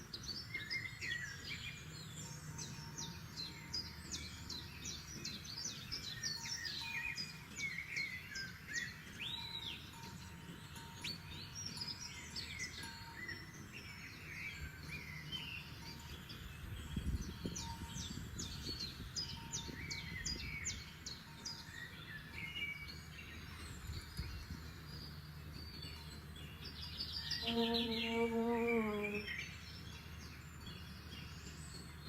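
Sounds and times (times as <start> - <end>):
songbirds chirping and whistling: 0.0 - 32.0.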